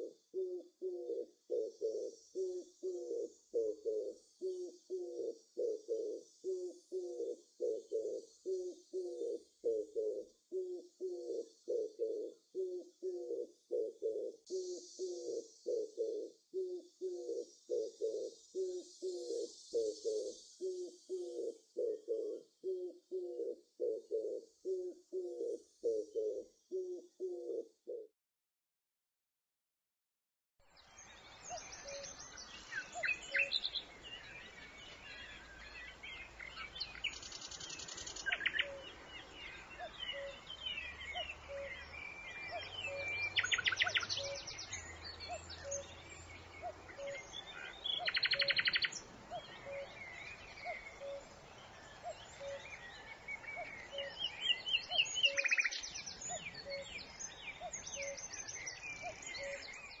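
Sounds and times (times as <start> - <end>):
songbirds singing and chirping: 0.0 - 27.6, 30.6 - 60.0.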